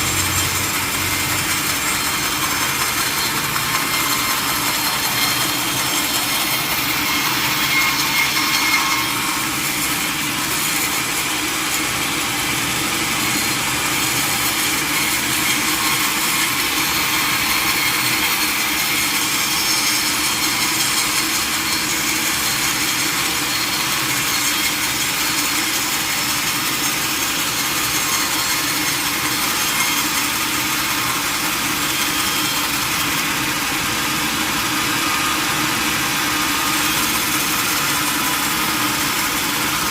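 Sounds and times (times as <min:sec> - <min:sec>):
power saw cutting log: 0:00.0 - 0:39.9.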